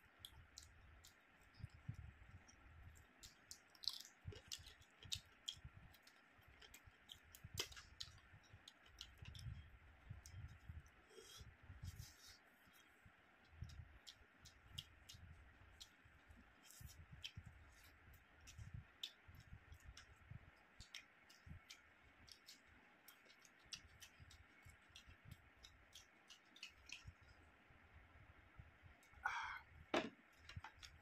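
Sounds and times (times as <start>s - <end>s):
person chewing food: 0.0s - 27.4s, 30.2s - 31.0s.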